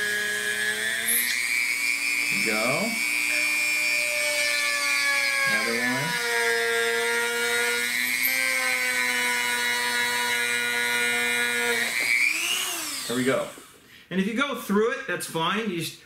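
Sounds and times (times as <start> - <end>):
rotary tool drilling into wood: 0.0 - 13.8.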